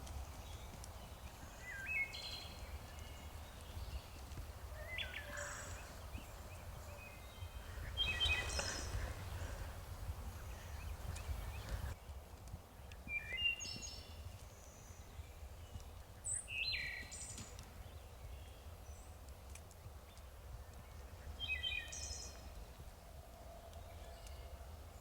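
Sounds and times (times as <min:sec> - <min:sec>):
songbirds chirping and whistling: 0:00.0 - 0:12.0, 0:12.8 - 0:19.2, 0:20.1 - 0:23.0.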